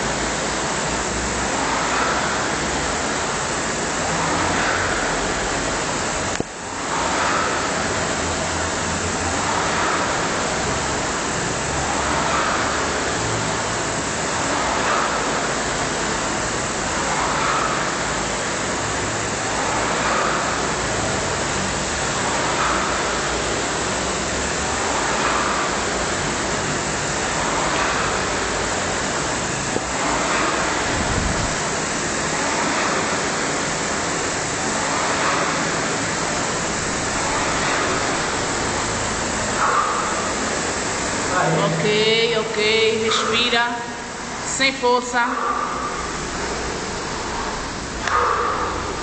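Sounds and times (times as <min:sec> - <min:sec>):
rowing machine flywheel whirring: 0:00.0 - 0:49.0.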